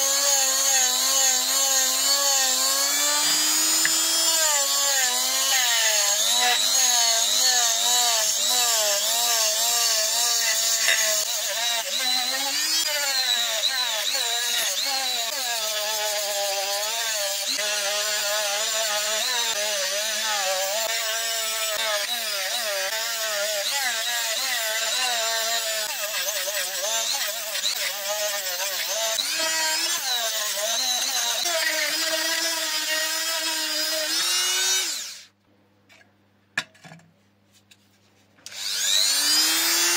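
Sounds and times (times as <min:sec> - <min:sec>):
small electric power tool running: 0:00.0 - 0:35.3, 0:38.5 - 0:39.9.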